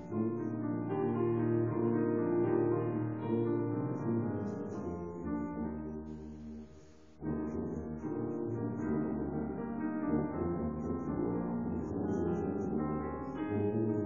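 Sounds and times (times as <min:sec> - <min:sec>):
tuba and piano classical piece: 0:00.0 - 0:14.0.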